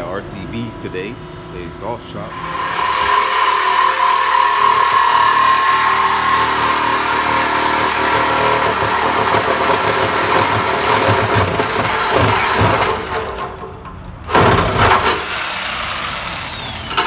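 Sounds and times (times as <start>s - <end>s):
reciprocating saw cutting metal: 0.0s - 17.0s.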